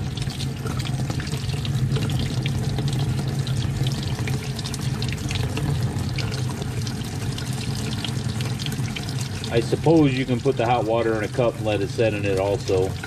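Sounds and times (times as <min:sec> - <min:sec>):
water running from faucet: 0:00.0 - 0:13.0
water splashing into sink: 0:00.0 - 0:13.0.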